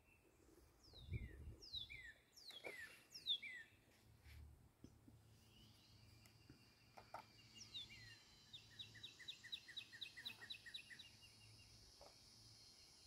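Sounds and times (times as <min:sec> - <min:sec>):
songbird singing: 0:00.0 - 0:04.2, 0:04.8 - 0:13.0.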